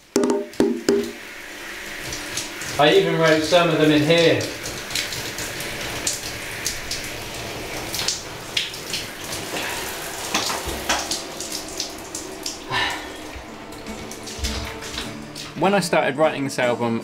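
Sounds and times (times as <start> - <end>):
shower spraying water: 0.0 - 16.6.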